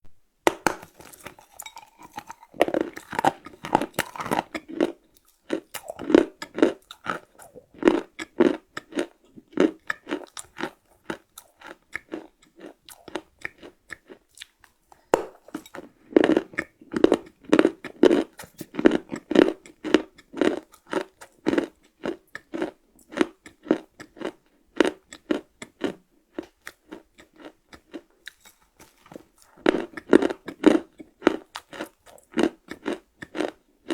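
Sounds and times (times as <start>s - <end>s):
crunchy cookie chewing: 0.5s - 33.9s.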